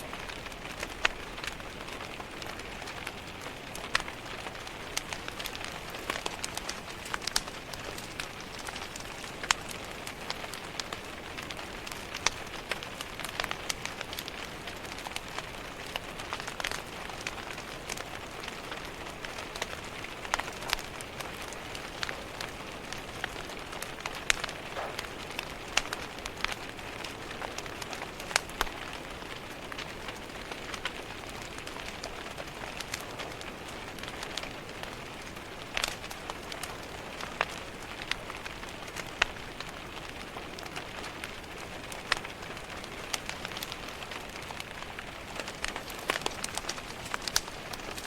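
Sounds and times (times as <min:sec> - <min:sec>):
rain pattering: 0:00.0 - 0:48.0
wood fire crackling and popping: 0:00.0 - 0:48.0.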